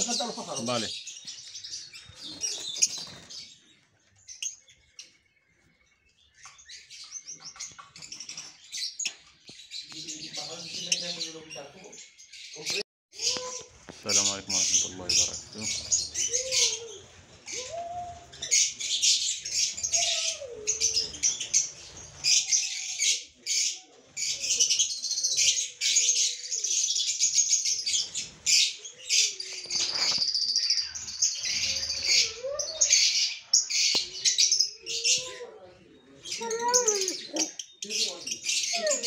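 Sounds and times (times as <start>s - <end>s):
lovebirds chattering: 0.0s - 39.0s.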